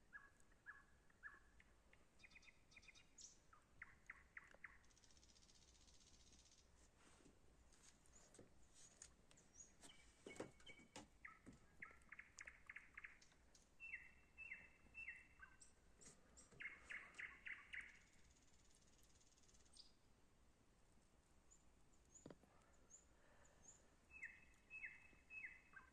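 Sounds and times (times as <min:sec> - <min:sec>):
birds chirping faintly: 0:00.0 - 0:20.3, 0:20.9 - 0:25.9.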